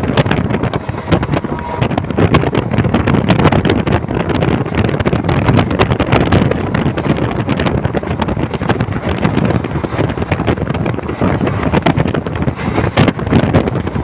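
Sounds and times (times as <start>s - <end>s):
train carriage rattling: 0.0s - 14.0s
wind buffeting microphone: 0.0s - 14.0s.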